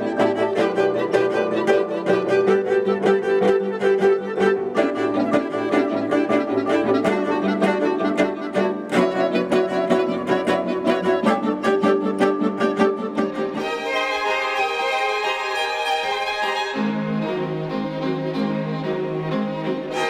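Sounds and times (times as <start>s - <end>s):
violin and cello music: 0.0s - 20.0s.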